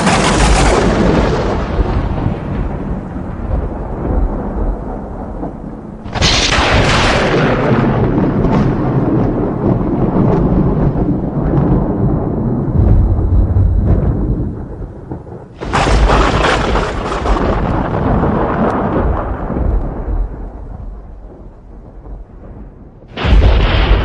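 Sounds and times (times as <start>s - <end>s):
thunder rumbling and cracking: 0.0s - 24.0s.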